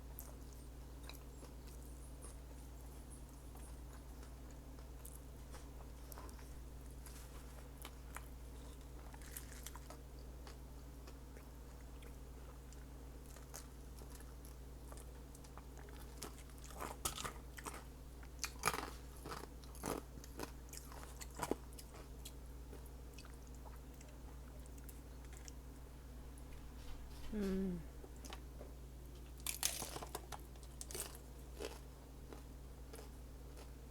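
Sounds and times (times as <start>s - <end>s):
steady low hum: 0.0s - 33.9s
chewing and biting food: 0.2s - 25.6s, 29.2s - 33.8s.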